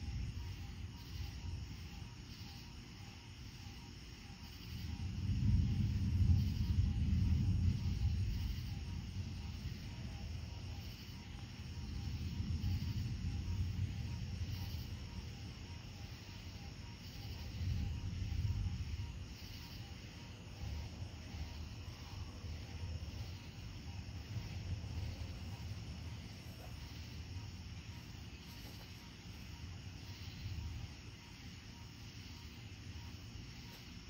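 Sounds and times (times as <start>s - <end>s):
night insects chirping: 0.0s - 34.0s
distant thunder rumbling: 4.6s - 34.0s.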